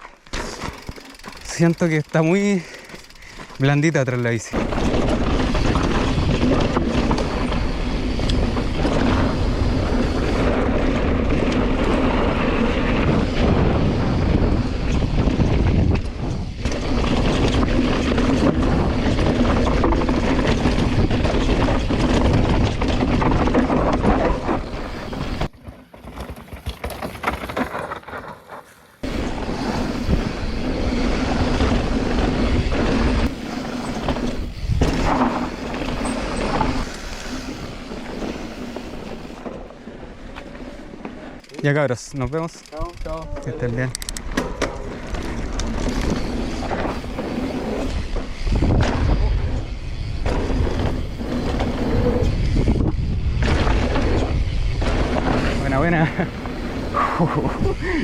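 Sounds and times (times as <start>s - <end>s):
bike rattling over rocky dirt: 0.0s - 58.0s
wind buffeting microphone: 4.5s - 26.1s, 28.6s - 41.3s, 42.0s - 58.0s.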